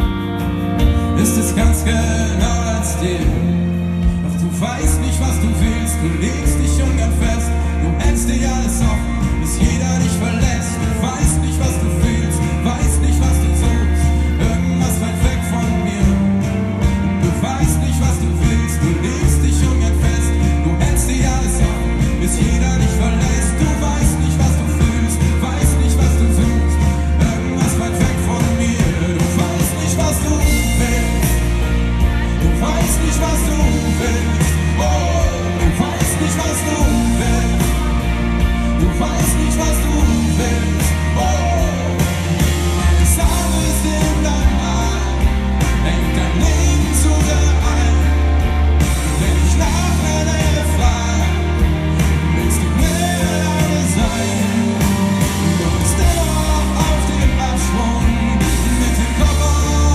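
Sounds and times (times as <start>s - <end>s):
bass guitar: 0.0s - 59.9s
drums: 0.0s - 59.9s
electric guitars: 0.0s - 59.9s
person singing: 0.0s - 59.9s.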